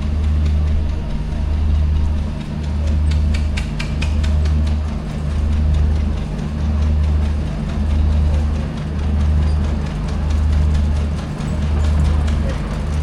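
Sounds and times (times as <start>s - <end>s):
low engine hum pulsing: 0.0s - 13.0s.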